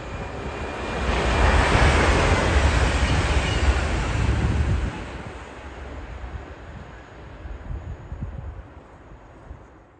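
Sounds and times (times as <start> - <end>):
electric train passing: 0.0 - 9.9.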